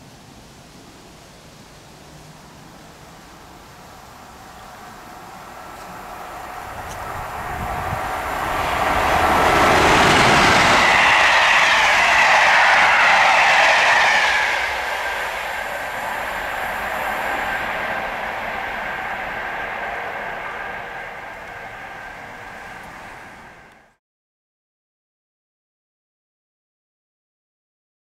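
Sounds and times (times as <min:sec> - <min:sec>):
train wheels rushing on rail: 0:00.7 - 0:24.0.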